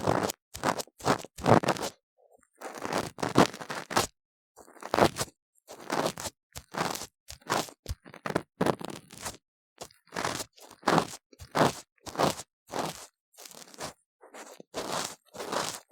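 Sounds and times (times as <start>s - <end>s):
ear tool scraping crunchy strokes: 0.0s - 2.0s, 2.6s - 15.9s.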